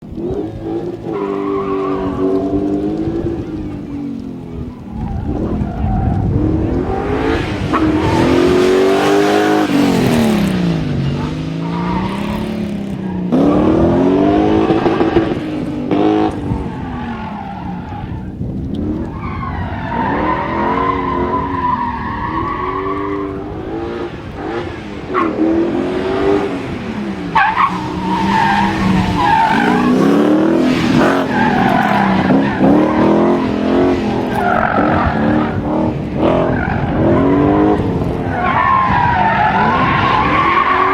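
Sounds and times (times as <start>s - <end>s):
car engine revving: 0.0s - 40.9s
tyres skidding: 0.0s - 40.9s.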